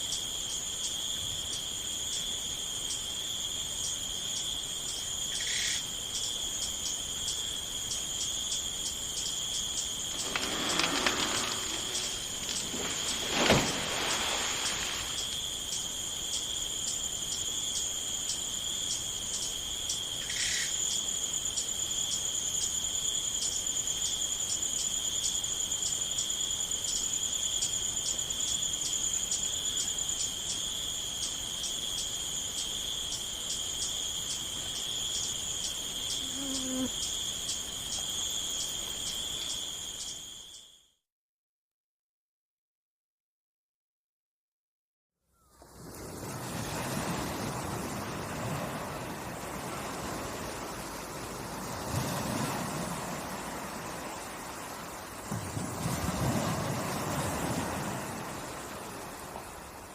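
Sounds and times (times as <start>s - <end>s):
crickets chirping: 0.0s - 41.0s, 45.3s - 59.9s.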